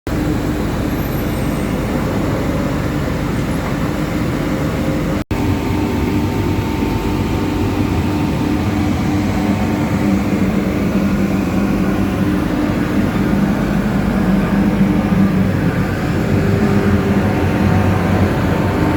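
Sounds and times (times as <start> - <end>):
heavy machinery droning: 0.1 - 18.9
low hum: 0.1 - 18.9.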